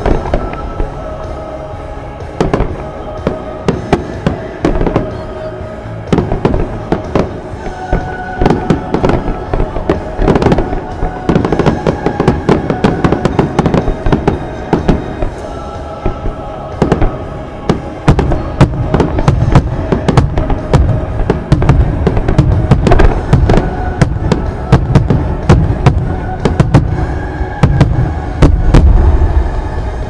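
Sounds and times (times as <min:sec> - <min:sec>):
fireworks bursting and crackling: 0:00.0 - 0:30.0
music playing: 0:00.0 - 0:30.0
fireworks booms: 0:02.2 - 0:05.3, 0:06.0 - 0:30.0.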